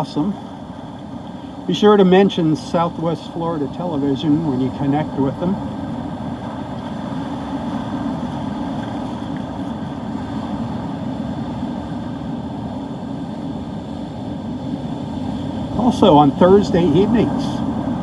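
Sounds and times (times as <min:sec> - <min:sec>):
surf: 0:00.0 - 0:18.0.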